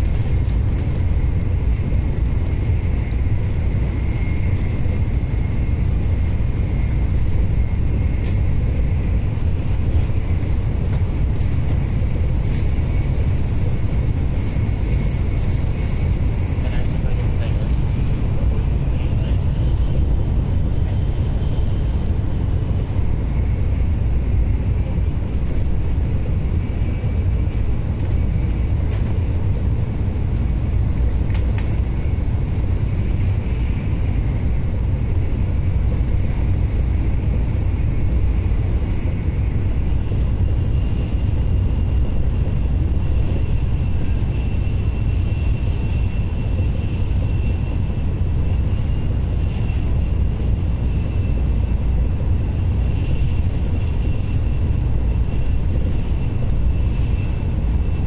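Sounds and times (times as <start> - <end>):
faint high whine: 0.0 - 58.0
train rumble inside cabin: 0.0 - 58.0.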